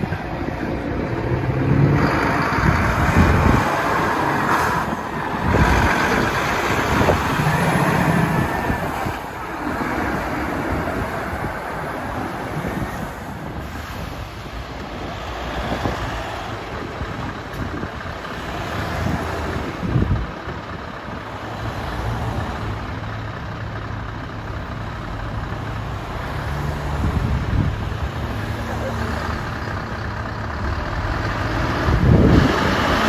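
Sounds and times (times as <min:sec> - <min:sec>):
road noise: 0:00.0 - 0:33.0
truck diesel engine running: 0:00.0 - 0:33.0.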